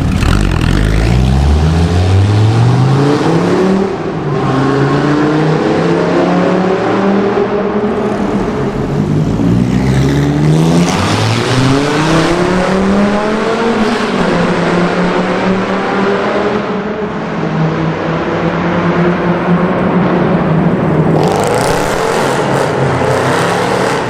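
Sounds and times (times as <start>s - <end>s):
car engine accelerating in a tunnel: 0.0s - 24.0s.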